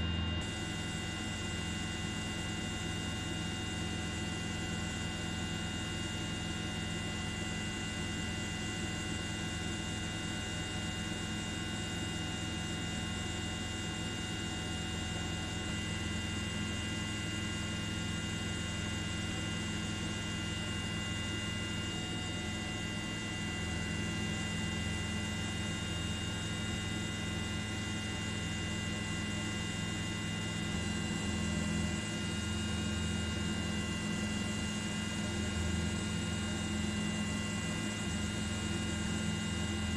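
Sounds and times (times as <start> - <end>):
aircraft drone: 0.0 - 39.9.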